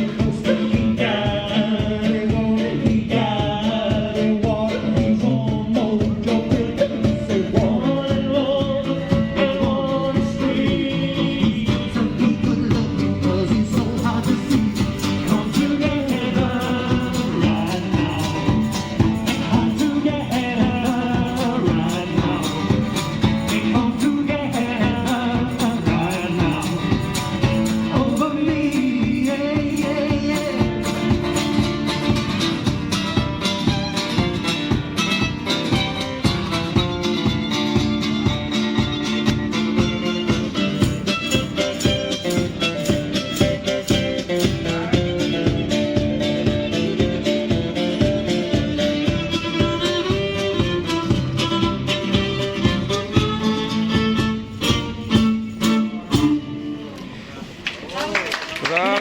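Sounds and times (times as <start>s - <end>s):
person singing: 0.0s - 32.1s, 39.7s - 56.5s
steady drum beat: 0.0s - 56.5s
guitar strumming: 0.0s - 57.2s
live rock-pop band: 0.0s - 57.6s.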